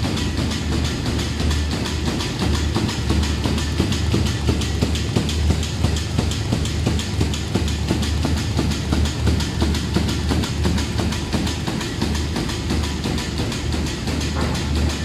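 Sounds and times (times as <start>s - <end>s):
fast clatter of clicks: 0.0s - 15.0s
machine low hum: 0.0s - 15.0s.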